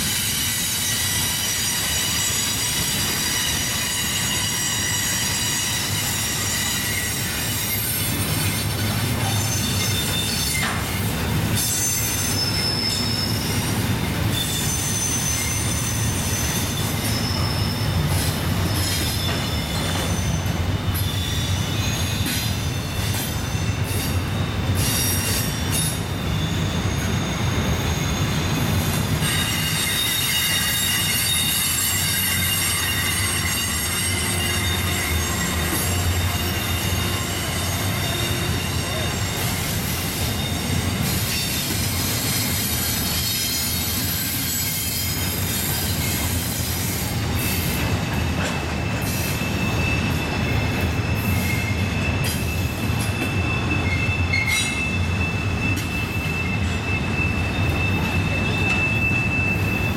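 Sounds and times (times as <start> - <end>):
train wheels rumbling on rail: 0.0 - 59.9
wheel flange squeal: 0.0 - 59.9.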